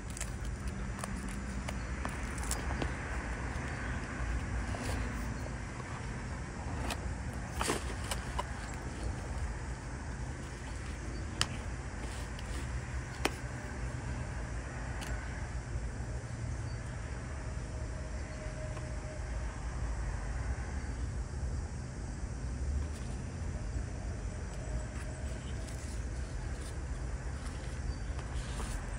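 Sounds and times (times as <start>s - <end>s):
low outdoor rumble: 0.0s - 28.9s.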